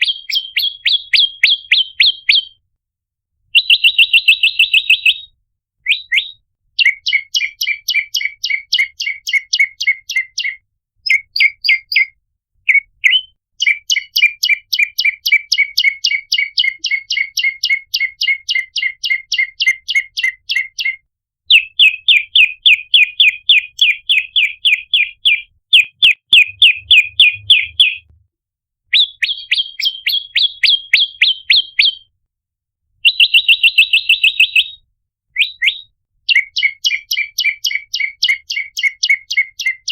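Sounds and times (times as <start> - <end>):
bird chirping rapidly: 0.0 - 2.6, 3.6 - 5.3, 5.9 - 28.1, 28.9 - 32.1, 33.0 - 34.8, 35.4 - 39.9.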